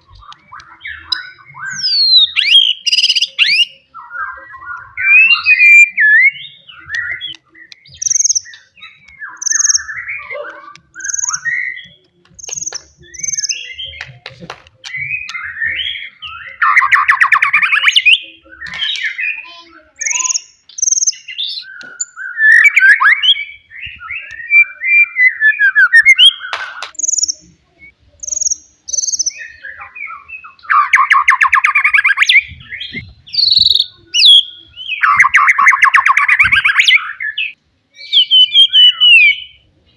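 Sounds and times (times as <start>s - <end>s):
songbird singing whistles and trills: 0.0s - 14.1s, 14.8s - 39.7s.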